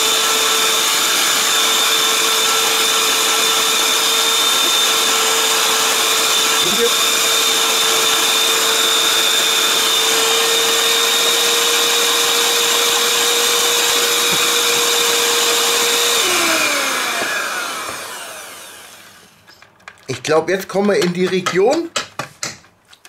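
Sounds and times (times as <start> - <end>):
electric hand mixer whining: 0.0 - 19.5.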